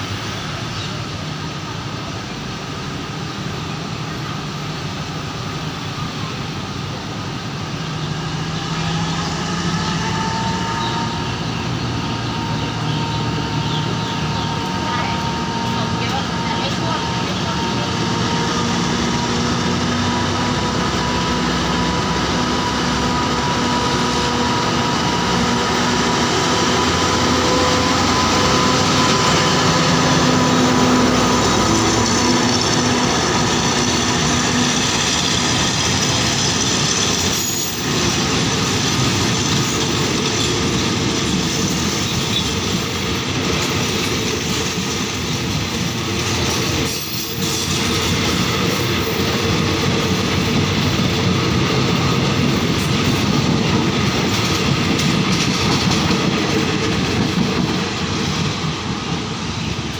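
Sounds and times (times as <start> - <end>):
diesel locomotive engine drone: 0.0 - 59.9
train coaches rolling on rails: 0.0 - 59.9.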